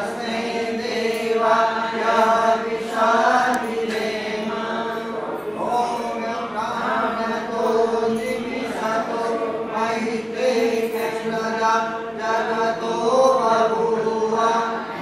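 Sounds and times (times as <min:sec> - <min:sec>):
sing-song chanting: 0:00.0 - 0:15.0.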